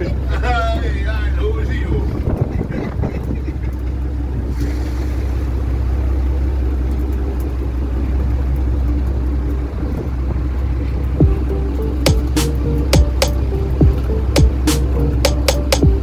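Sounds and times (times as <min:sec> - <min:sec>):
boat engine drone: 0:00.0 - 0:16.0.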